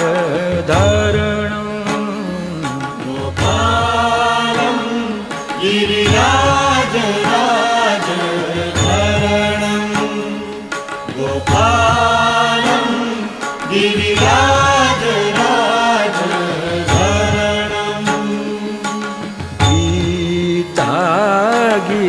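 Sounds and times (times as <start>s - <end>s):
sung devotional chant: 0.0s - 22.0s.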